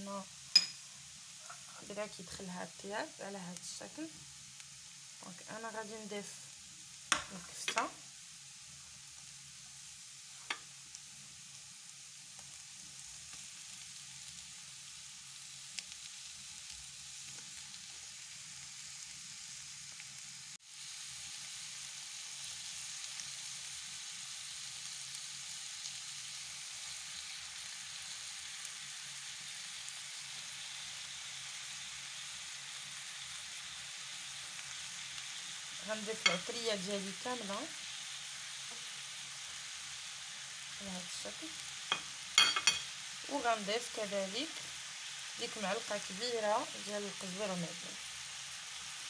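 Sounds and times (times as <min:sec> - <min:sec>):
meat sizzling in a frying pan: 0:00.0 - 0:49.0.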